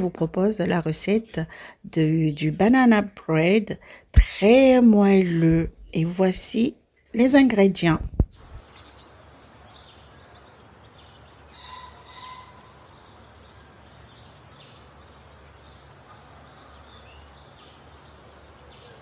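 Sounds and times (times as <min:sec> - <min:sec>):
faint birds chirping: 0:00.0 - 0:19.0
low steady background noise: 0:00.0 - 0:19.0.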